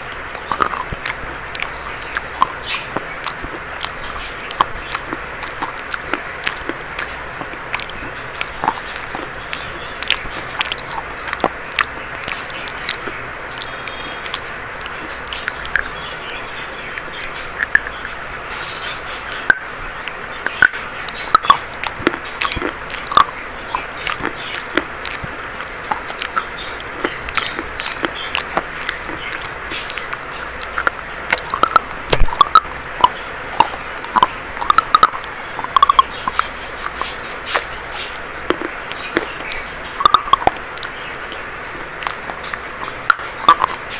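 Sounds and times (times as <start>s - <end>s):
chalk being chewed: 0.0s - 43.9s.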